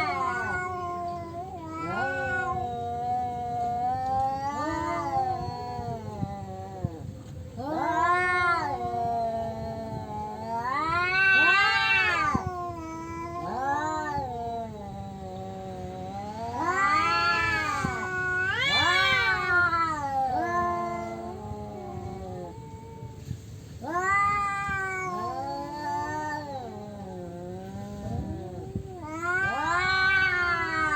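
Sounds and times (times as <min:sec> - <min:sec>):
cats yowling: 0:00.0 - 0:30.9.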